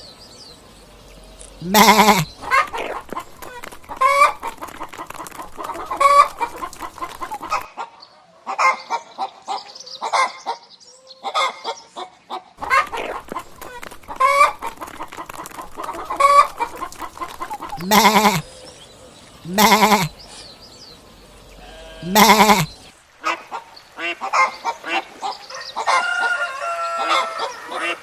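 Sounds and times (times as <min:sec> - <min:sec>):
chickens clucking: 0:01.4 - 0:28.0.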